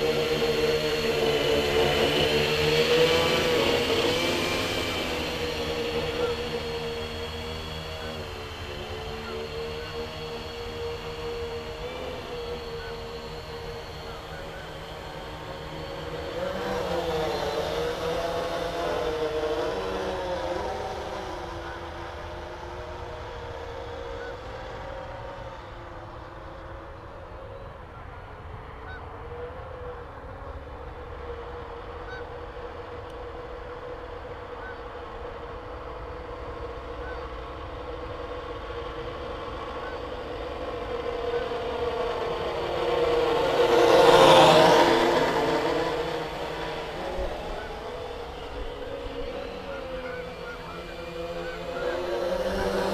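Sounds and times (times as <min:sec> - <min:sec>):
quadcopter motors whirring: 0:00.0 - 0:52.9.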